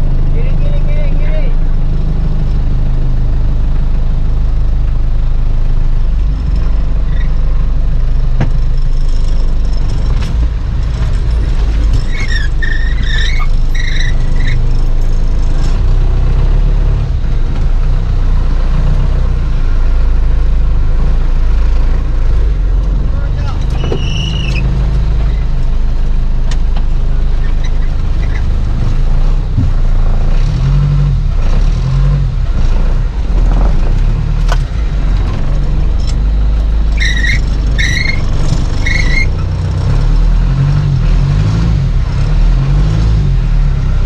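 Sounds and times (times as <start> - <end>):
car engine droning at low revs: 0.0 - 44.0.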